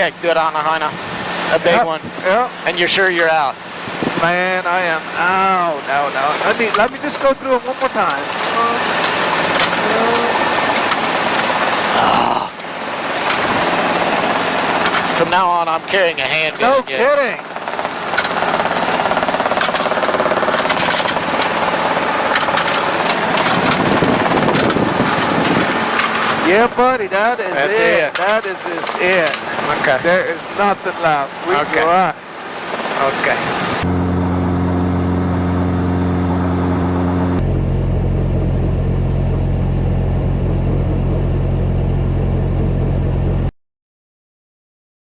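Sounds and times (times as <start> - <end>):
helicopter rotor chopping: 0.0 - 43.4.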